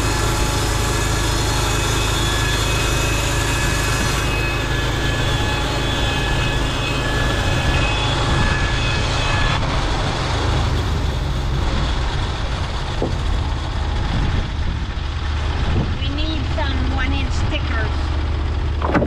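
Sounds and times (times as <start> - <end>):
high whining tones: 0.0 - 19.0
sawmill engine running: 0.0 - 19.0.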